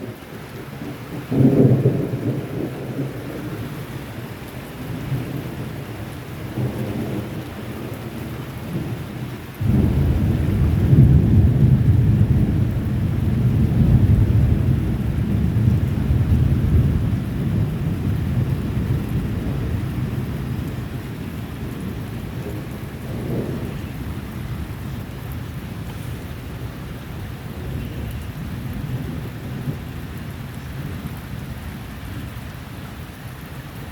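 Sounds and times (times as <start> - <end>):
rain: 0.0 - 33.9
thunder rumbling: 0.0 - 33.9.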